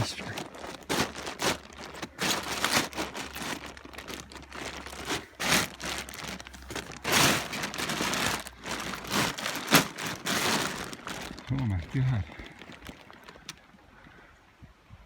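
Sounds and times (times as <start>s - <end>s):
rustling and crunching: 0.0s - 13.8s.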